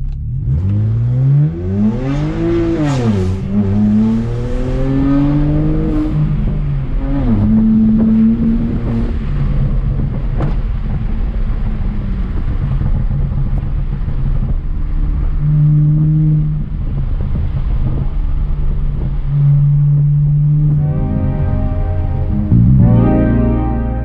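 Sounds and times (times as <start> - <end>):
car exhaust drone while driving: 0.0 - 23.6.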